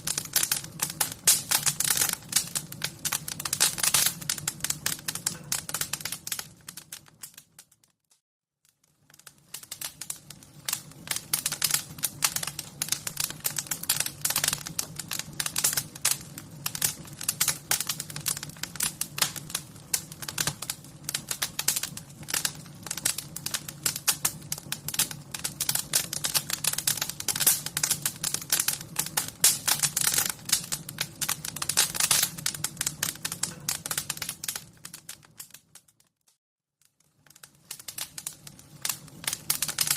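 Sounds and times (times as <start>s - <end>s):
wood fire crackling: 0.0s - 8.0s, 8.6s - 36.1s, 36.8s - 39.9s.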